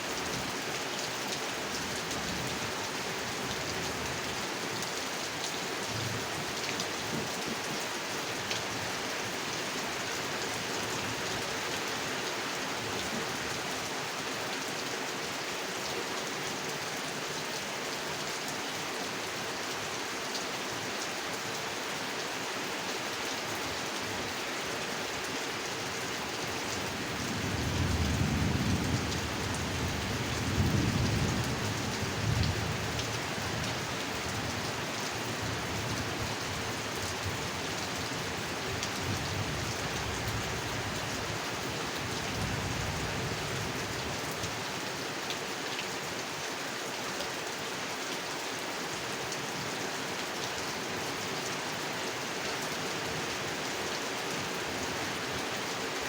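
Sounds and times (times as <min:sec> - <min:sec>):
heavy rain on a pond: 0:00.0 - 0:56.0.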